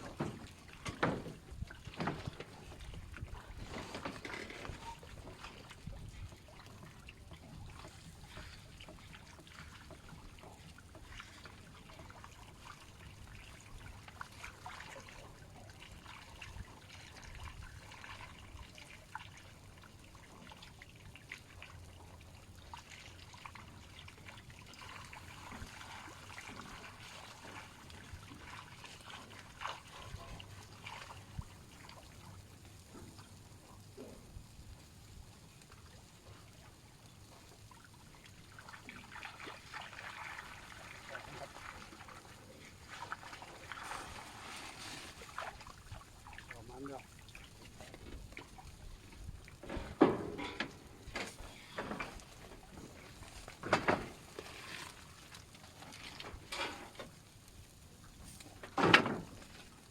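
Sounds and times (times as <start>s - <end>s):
small clicks and drips: 0.0s - 59.9s
water trickling and splashing: 0.0s - 59.9s.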